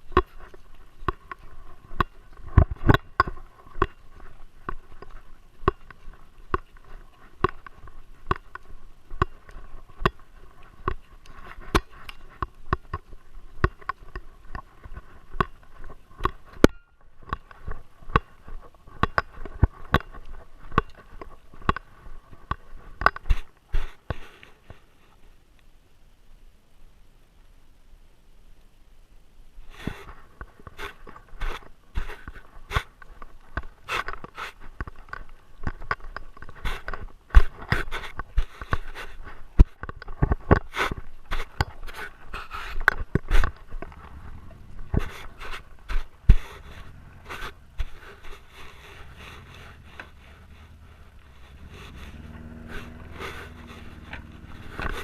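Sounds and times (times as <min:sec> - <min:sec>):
clicks crunches and scrapes: 0:00.0 - 0:24.8, 0:29.8 - 0:55.0.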